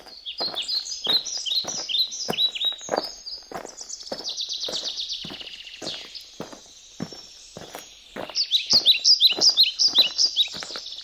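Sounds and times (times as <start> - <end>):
footsteps on grass path: 0.0 - 11.0
songbirds chirping: 0.0 - 11.0.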